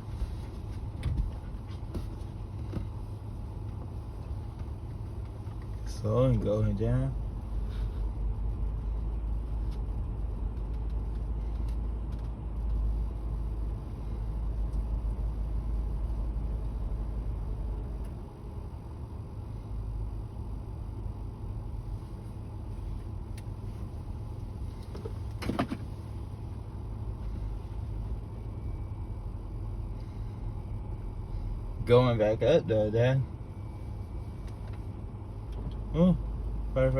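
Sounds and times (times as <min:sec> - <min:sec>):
truck engine rumbling: 0:00.0 - 0:36.9.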